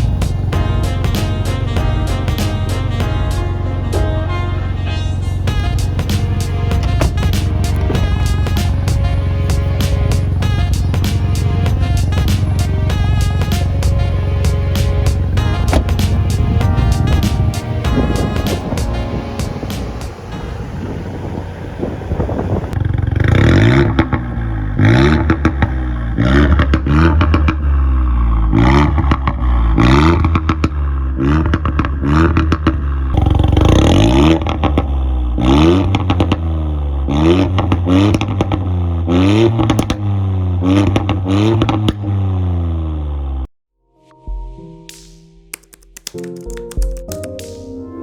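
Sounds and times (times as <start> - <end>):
car engine revving: 0.0 - 30.4, 31.2 - 43.4
exhaust crackles: 0.0 - 43.2.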